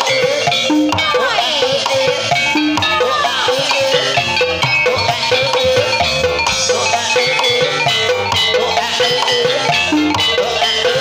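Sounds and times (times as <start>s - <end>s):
drums: 0.0s - 11.0s
ringing metal percussion: 0.0s - 11.0s
sliding melodic line: 0.0s - 11.0s.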